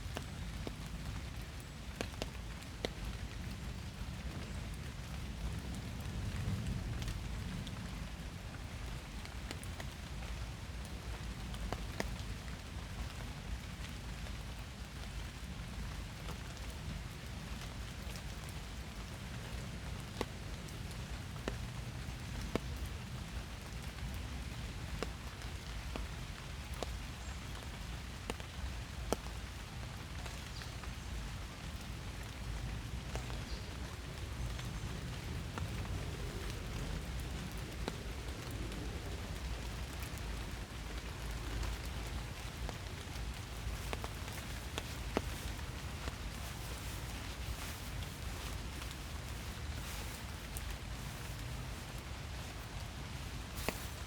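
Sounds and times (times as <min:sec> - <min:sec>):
rain falling in forest: 0:00.0 - 0:54.0.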